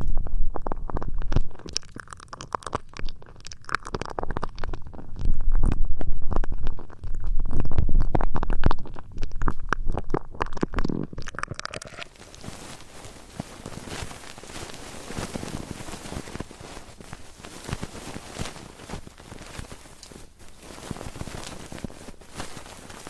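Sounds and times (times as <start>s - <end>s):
crackles: 0.0s - 23.0s
rubbing and scratching on microphone: 0.0s - 23.0s.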